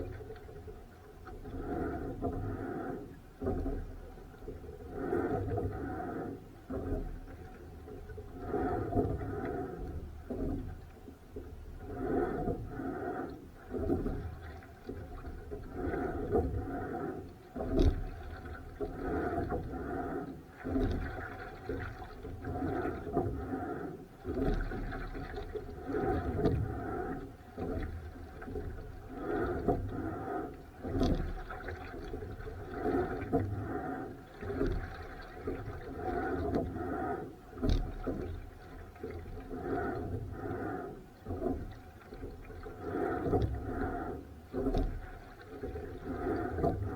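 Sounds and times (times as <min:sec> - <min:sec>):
water sloshing around a boat: 0:00.0 - 0:46.9.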